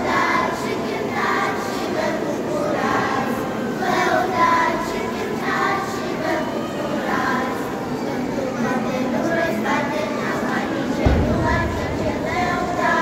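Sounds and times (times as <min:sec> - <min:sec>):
children's choir singing: 0:00.0 - 0:13.0.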